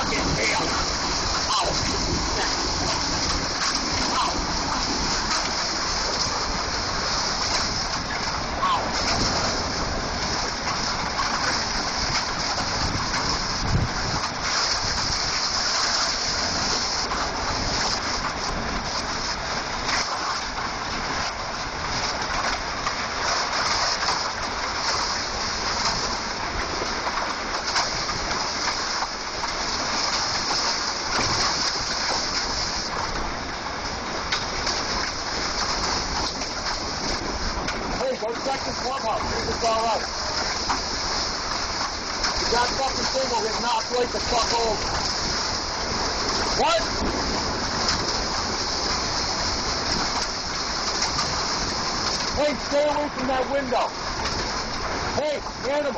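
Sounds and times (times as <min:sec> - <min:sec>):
heavy rain and hail: 0:00.0 - 0:55.9
wind gusts buffeting microphone: 0:00.0 - 0:55.9.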